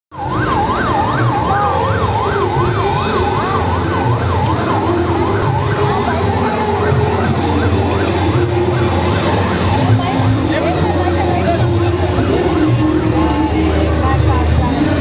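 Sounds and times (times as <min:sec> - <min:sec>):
electronic siren yelping: 0:00.1 - 0:14.2
crowd noise: 0:00.1 - 0:15.0.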